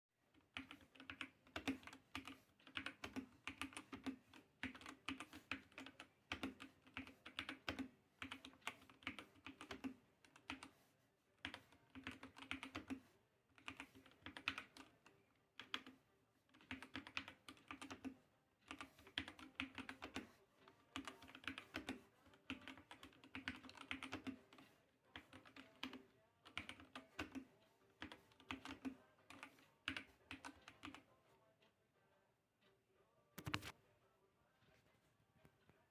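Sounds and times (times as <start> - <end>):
mechanical keyboard typing: 0.3 - 10.8, 11.4 - 31.1.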